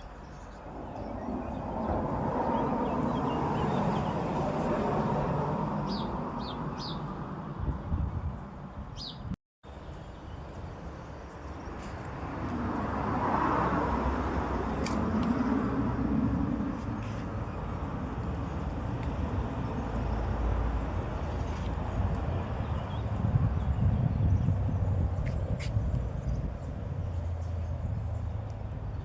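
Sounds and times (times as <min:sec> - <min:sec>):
traffic-like background noise: 0:00.0 - 0:29.0.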